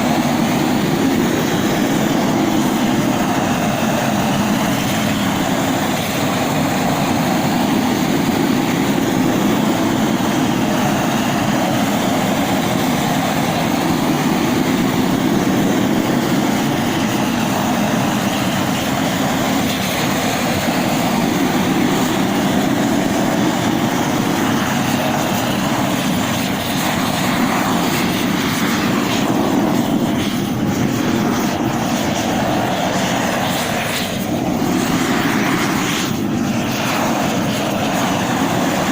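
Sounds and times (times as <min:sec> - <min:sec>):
gas torch rushing flame: 0:00.0 - 0:38.9.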